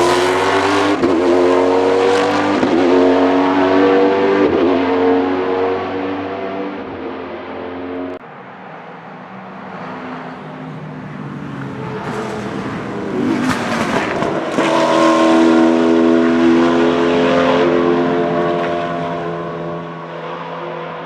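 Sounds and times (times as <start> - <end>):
race car engine passing: 0.0 - 21.0.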